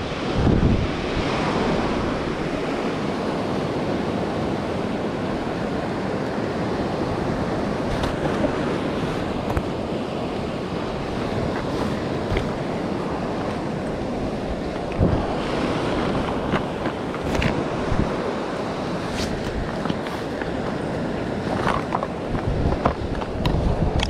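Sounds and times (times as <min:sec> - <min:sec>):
surf breaking on rocky shore: 0:00.0 - 0:24.0
wind on microphone: 0:00.0 - 0:24.0.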